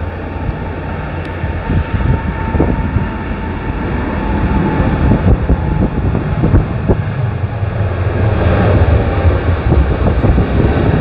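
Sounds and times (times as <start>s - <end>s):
jet engines roaring: 0.0s - 11.0s
wind buffeting microphone: 0.0s - 11.0s.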